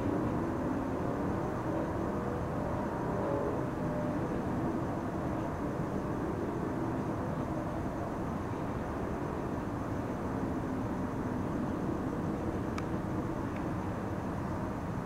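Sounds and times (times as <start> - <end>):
distant city rumble: 0.0 - 15.0
faint humming tones: 0.0 - 15.0.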